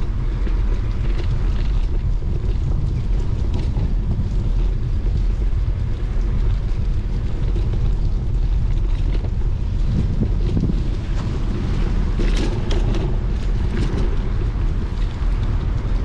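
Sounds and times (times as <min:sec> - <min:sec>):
bicycle riding hiss: 0:00.0 - 0:16.0
wind buffeting microphone: 0:00.0 - 0:16.0.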